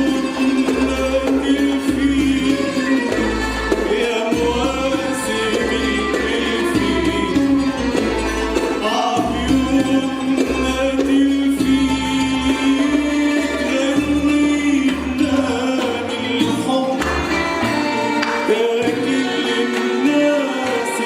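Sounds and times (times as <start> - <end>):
choir singing: 0.0 - 8.0, 11.7 - 21.0
instrumental ensemble: 0.0 - 21.0.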